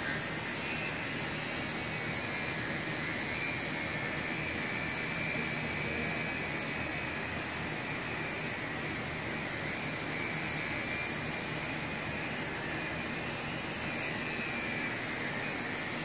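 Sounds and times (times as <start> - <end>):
electric clippers running: 0.0 - 16.0.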